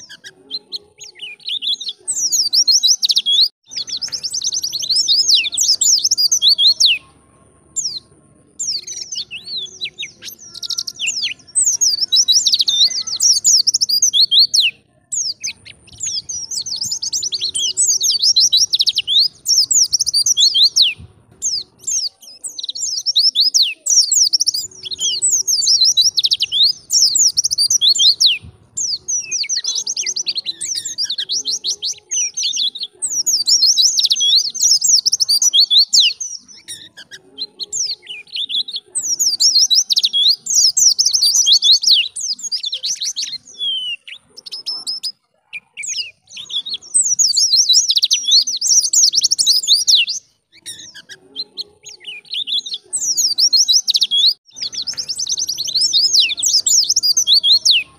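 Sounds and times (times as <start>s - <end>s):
bird twittering song: 0.0s - 57.9s.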